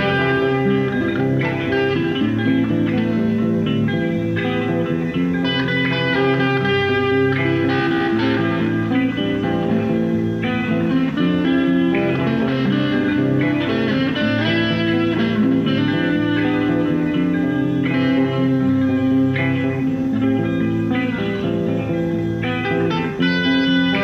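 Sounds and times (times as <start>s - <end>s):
electric guitar notes and chords: 0.0s - 24.0s.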